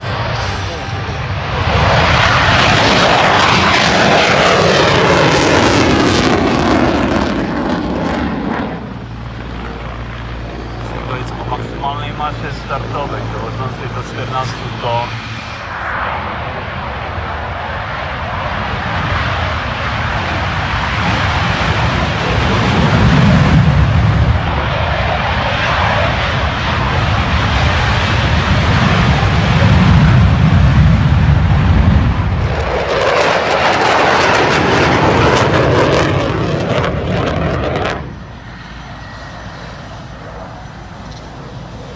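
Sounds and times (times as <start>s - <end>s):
aircraft engines passing low: 0.0s - 41.9s.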